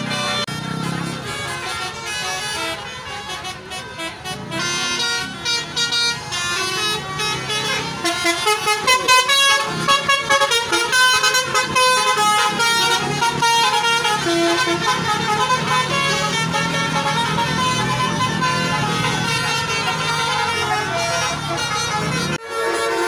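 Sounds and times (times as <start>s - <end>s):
multi-tone bus horns tooting: 0.0s - 23.0s.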